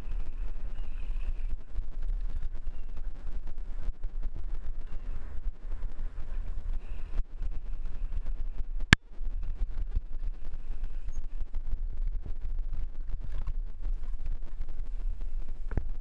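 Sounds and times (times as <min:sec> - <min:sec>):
bike rattling: 0:00.0 - 0:16.0
wind rumble on microphone: 0:00.0 - 0:16.0.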